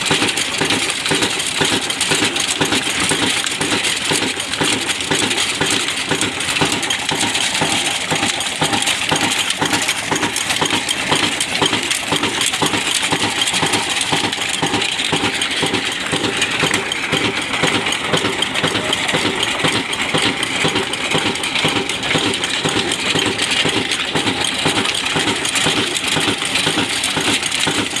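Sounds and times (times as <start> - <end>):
mill machinery clattering: 0.0 - 28.0
stationary engine running: 0.0 - 28.0.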